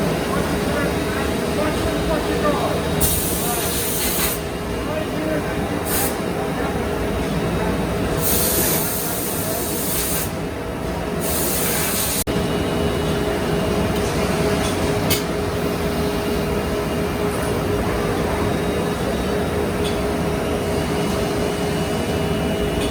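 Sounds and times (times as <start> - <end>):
mechanical hum: 0.0 - 22.9.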